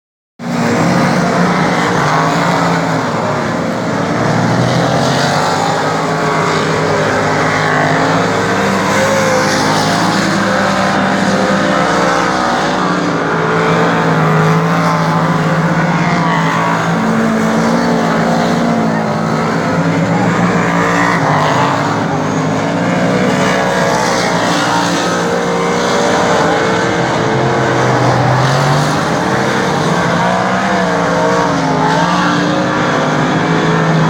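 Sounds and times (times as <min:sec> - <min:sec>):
race car engine revving: 0:00.4 - 0:34.0.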